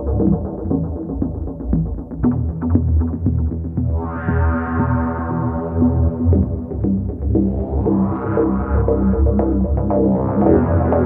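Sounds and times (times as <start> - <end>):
electronic synthesizer music: 0.0 - 11.0.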